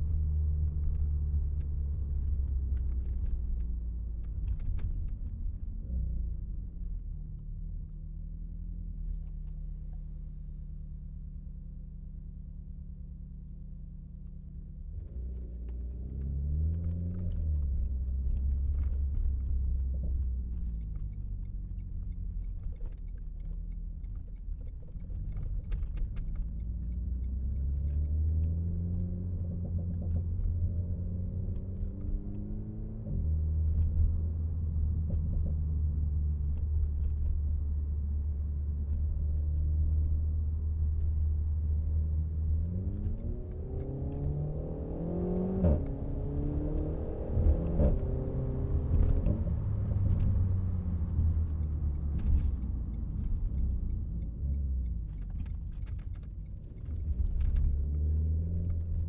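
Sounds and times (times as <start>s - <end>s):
car engine and exhaust revving: 0.0s - 59.0s.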